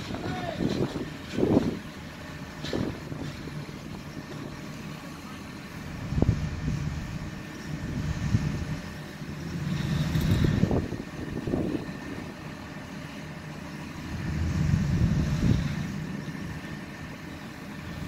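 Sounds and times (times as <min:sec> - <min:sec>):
crane engine rumbling: 0:00.0 - 0:18.0.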